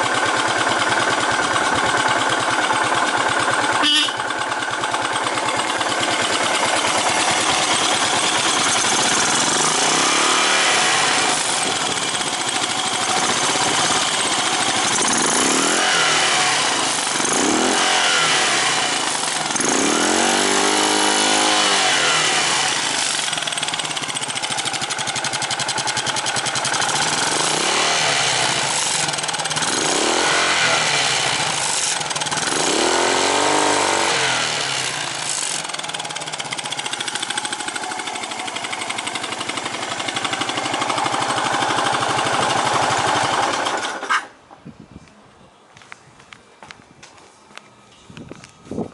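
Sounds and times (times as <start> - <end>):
motorcycle engine revving: 0.0 - 44.3.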